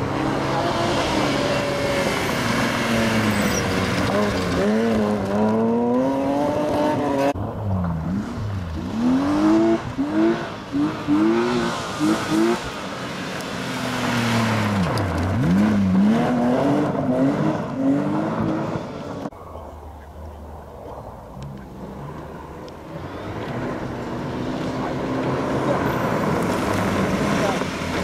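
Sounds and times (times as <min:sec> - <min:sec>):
rally car accelerating on gravel: 0:00.0 - 0:19.3, 0:20.9 - 0:28.0
rally car revving on gravel: 0:00.0 - 0:19.3, 0:21.4 - 0:28.0.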